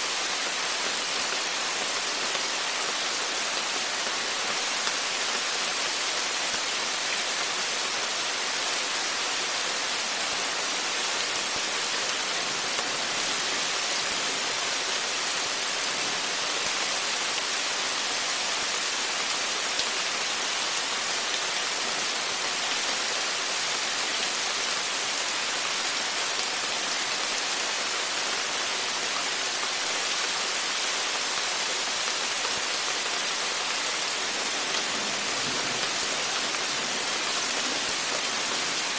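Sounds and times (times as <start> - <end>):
rain falling on porch: 0.0 - 38.9.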